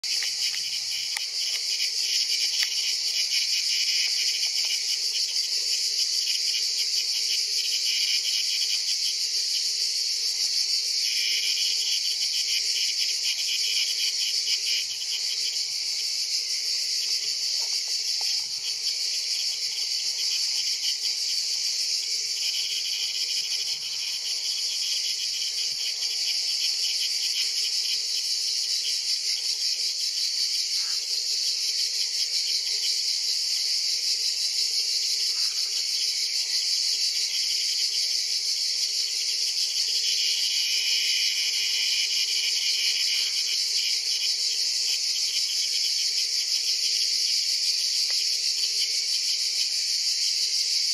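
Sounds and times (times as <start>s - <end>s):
cicadas buzzing: 0.0s - 50.9s
low pulsing insect song: 0.0s - 50.9s.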